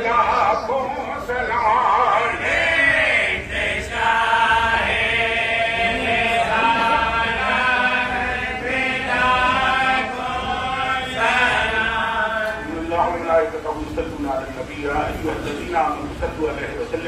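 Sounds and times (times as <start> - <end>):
men chanting a prayer: 0.0 - 17.0.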